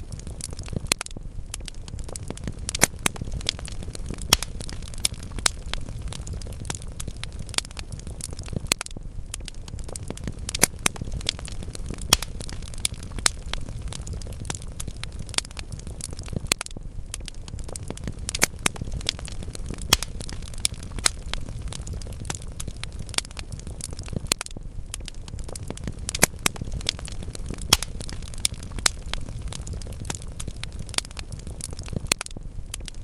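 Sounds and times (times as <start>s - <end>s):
fire flames rumbling: 0.0s - 33.0s
logs crackling and popping: 0.0s - 33.0s.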